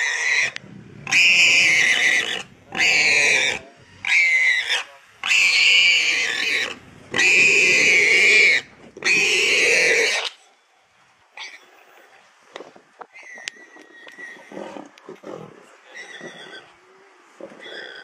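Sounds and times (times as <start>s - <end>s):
warthog squealing: 0.0s - 10.4s, 13.2s - 16.8s, 17.5s - 18.0s.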